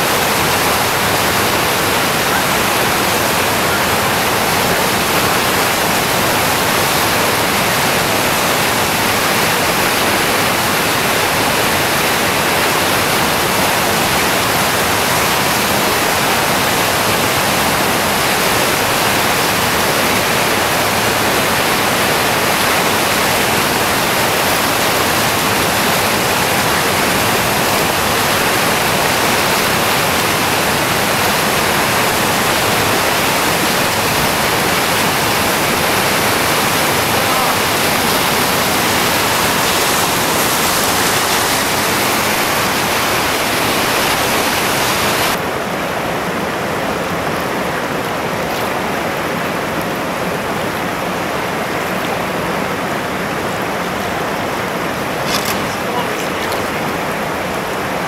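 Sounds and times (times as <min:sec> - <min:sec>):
whitewater rapid rushing: 0:00.0 - 0:58.0.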